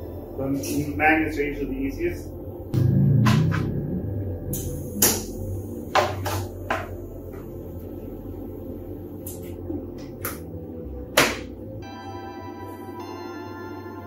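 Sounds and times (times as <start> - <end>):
soft background music: 0.0 - 14.0
steady low hum: 0.0 - 14.0.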